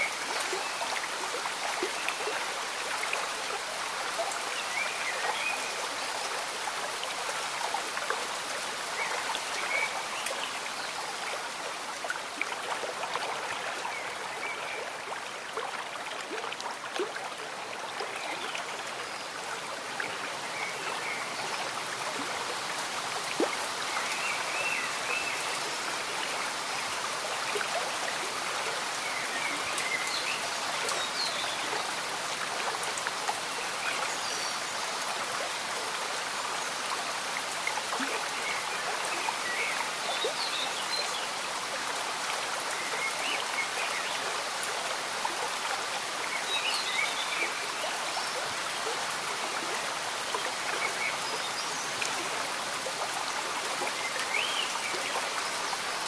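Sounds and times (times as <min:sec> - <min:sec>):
stream bubbling: 0:00.0 - 0:56.0.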